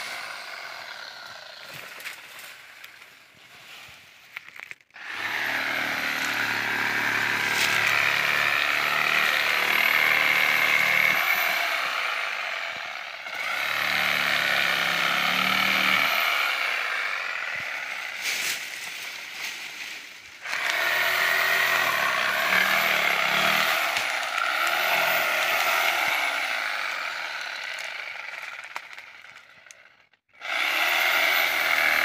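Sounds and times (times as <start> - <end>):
power saw cutting palm fronds: 0.0 - 4.1, 5.0 - 32.0.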